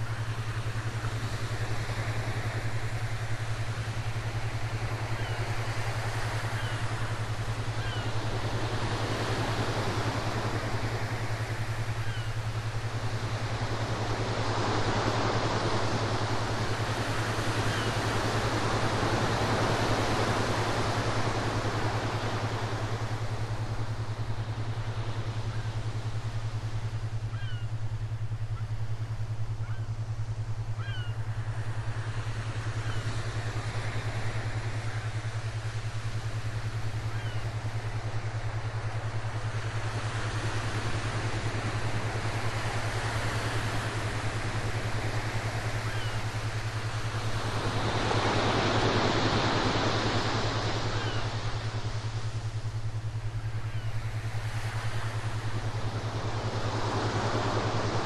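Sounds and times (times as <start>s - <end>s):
ocean waves: 0.0s - 58.0s
steady low hum: 0.0s - 58.0s.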